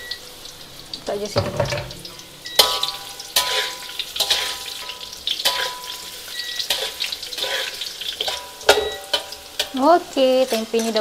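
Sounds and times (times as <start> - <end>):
food sizzling in hot oil: 0.0 - 11.0
utensil striking metal pan: 1.3 - 11.0.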